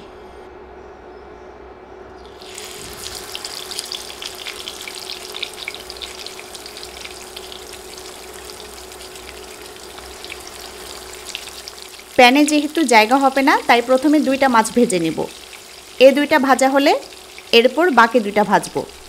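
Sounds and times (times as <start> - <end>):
fish sizzling in hot oil: 2.2 - 19.0.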